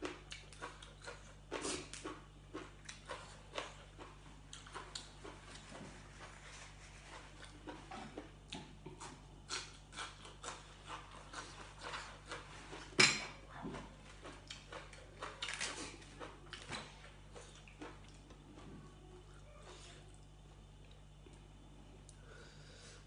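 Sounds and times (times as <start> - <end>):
chewing with crunches: 0.0 - 21.4.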